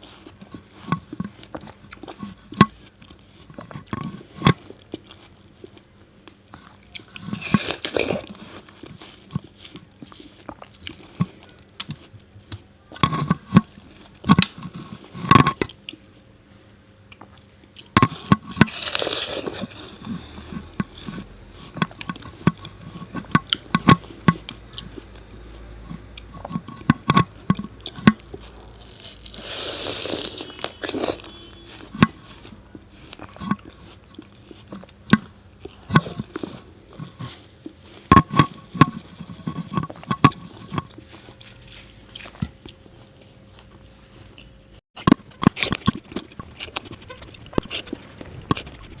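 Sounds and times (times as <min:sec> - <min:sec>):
biting and chewing watermelon: 0:00.0 - 0:16.2, 0:17.1 - 0:49.0.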